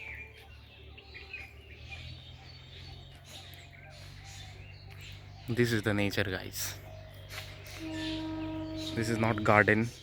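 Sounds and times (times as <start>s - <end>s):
small birds chirping: 0.0s - 10.0s
distant tractor engine drone: 0.8s - 10.0s.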